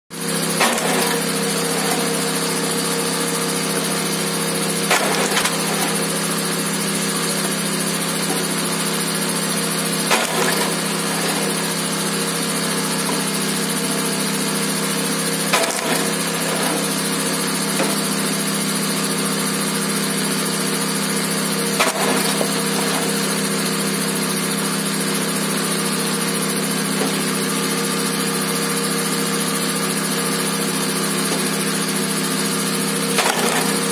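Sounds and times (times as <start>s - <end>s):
small engine running: 0.1s - 33.9s.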